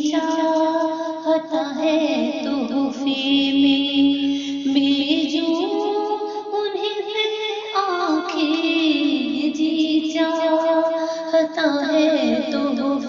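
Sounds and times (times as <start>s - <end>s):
woman singing devotional song: 0.0s - 13.0s.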